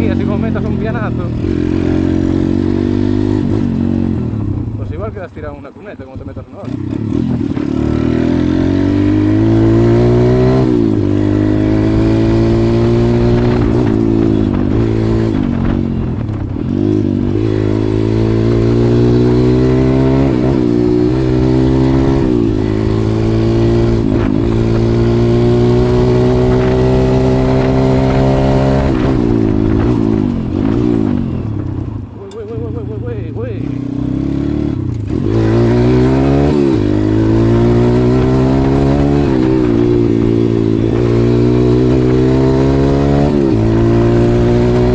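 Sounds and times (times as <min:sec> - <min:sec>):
pit bike engine revving: 0:00.0 - 0:44.9.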